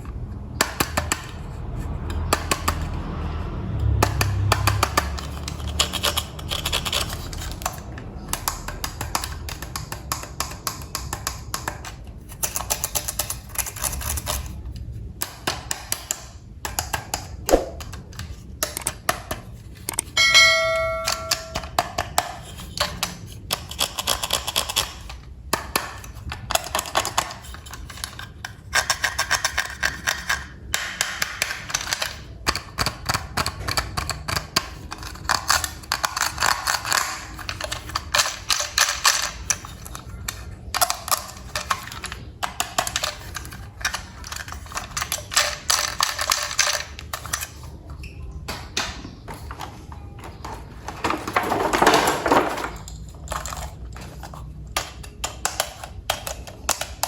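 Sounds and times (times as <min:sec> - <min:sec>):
plastic toy train parts rattling: 0:00.0 - 0:20.2, 0:20.8 - 0:48.0, 0:48.8 - 0:57.0.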